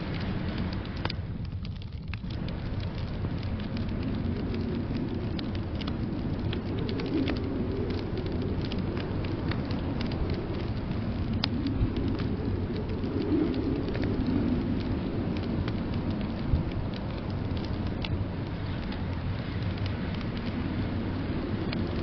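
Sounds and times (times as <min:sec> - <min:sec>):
low rumble: 0:00.0 - 0:22.0
wood fire crackling: 0:00.0 - 0:22.0.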